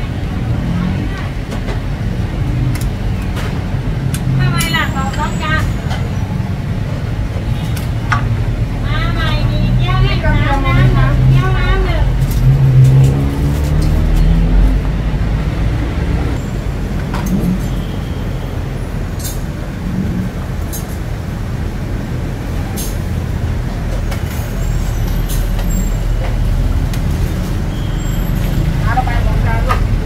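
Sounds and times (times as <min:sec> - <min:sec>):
bus engine: 0:00.0 - 0:30.0
steady traffic rumble: 0:00.0 - 0:30.0.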